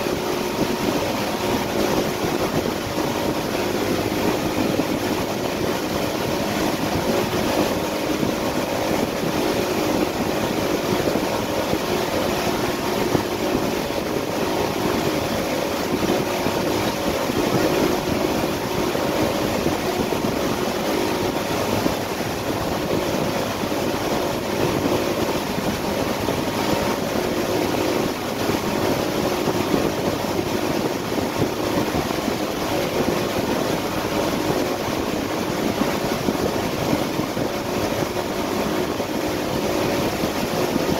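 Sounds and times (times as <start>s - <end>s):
boat engine drone: 0.0s - 40.9s
churning wake water: 0.0s - 40.9s
wind: 0.0s - 40.9s.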